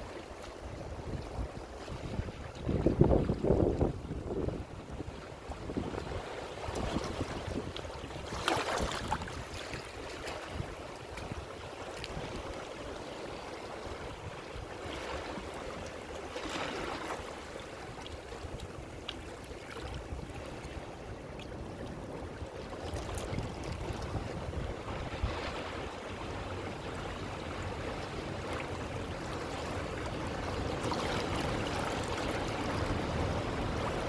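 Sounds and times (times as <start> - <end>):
ocean waves washing in: 0.0 - 21.3, 22.1 - 34.0.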